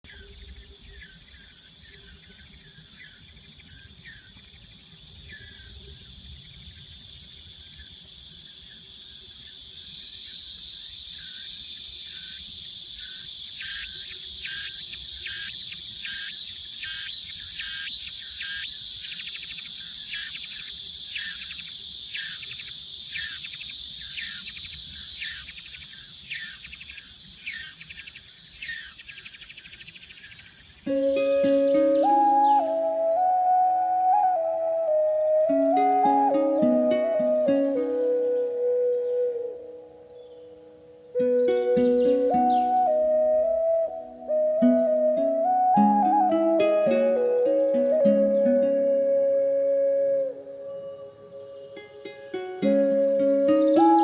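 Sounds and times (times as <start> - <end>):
insects droning: 0.1 - 54.0.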